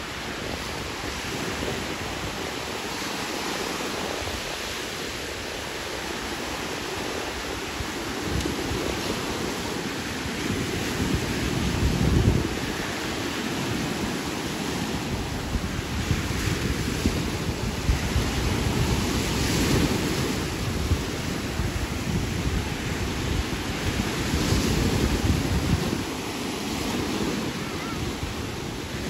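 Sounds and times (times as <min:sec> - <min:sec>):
small waves breaking on shore: 0:00.0 - 0:29.0
wind buffeting microphone: 0:00.0 - 0:29.0.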